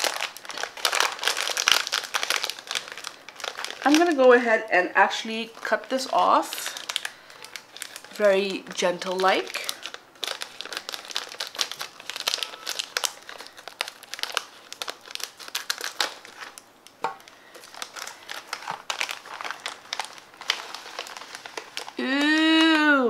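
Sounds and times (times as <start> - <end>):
plastic wrapper crinkling: 0.0 - 23.0.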